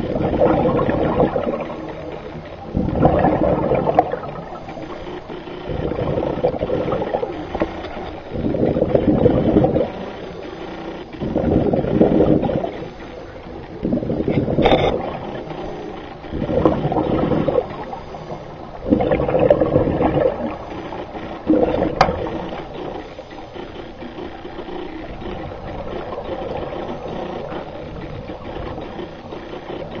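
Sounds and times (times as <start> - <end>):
quiet water wash: 0.0 - 30.0
underwater exhaust bubbles: 0.0 - 30.0.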